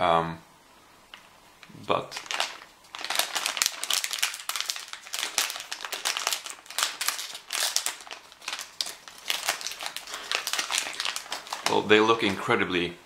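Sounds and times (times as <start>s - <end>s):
wrapper crinkling: 1.1s - 12.5s.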